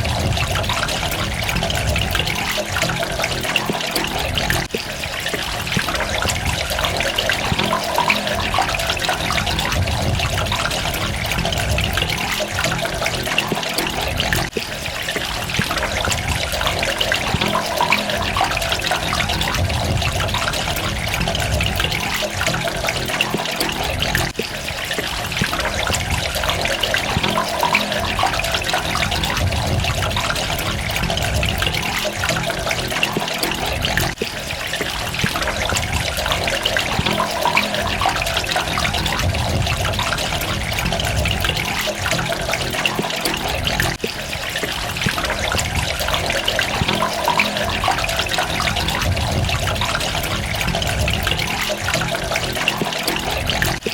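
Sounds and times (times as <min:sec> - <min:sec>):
water running and splashing: 0:00.0 - 0:53.9.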